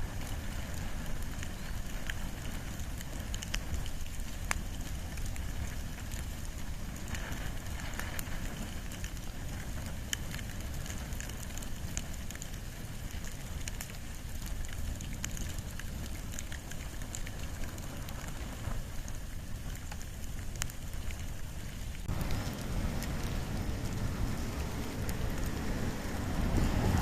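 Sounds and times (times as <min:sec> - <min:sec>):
fire crackling and popping: 0:00.0 - 0:27.0
flame rushing: 0:00.0 - 0:27.0.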